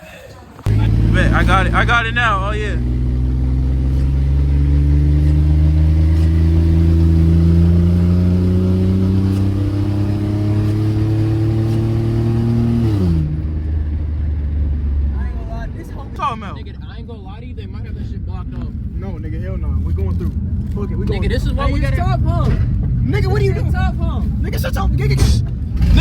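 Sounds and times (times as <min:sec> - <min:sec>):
car engine accelerating: 0:00.6 - 0:26.0.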